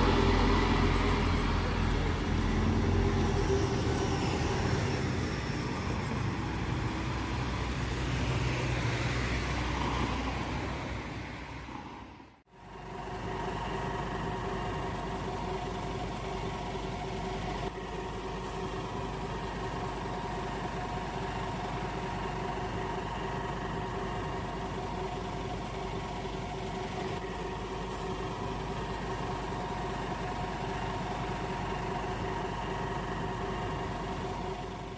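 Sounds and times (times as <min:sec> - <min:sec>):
bus engine idling: 0:00.0 - 0:34.9.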